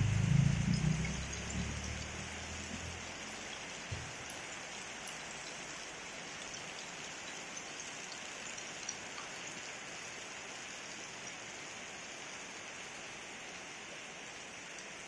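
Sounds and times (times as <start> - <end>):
heavy rain: 0.0 - 7.3, 8.2 - 15.0.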